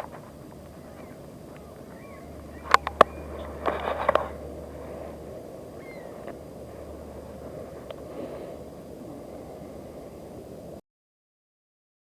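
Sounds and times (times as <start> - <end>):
faint short bird calls: 0.0 - 10.3
outdoor background noise: 0.0 - 10.8.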